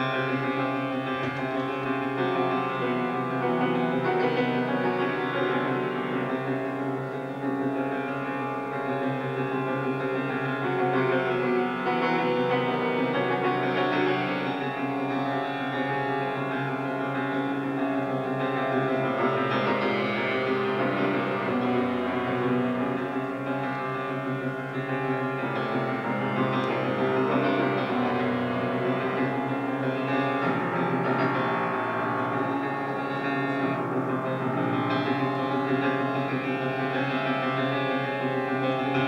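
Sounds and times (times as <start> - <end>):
solo grand piano chords: 0.0 - 39.0.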